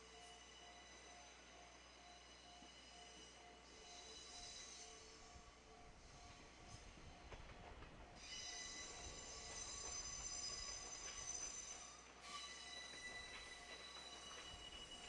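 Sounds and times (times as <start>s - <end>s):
faint low train rumble: 0.0s - 15.0s
train wheels squealing: 0.0s - 15.0s.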